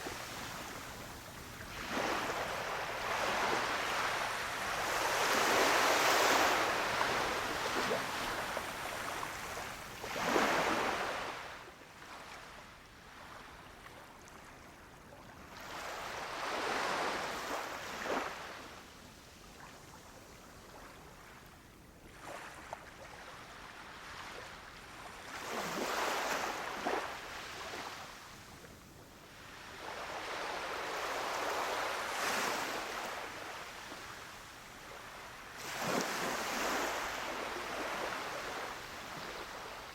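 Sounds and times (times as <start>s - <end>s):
small waves breaking on a beach: 0.0s - 39.9s.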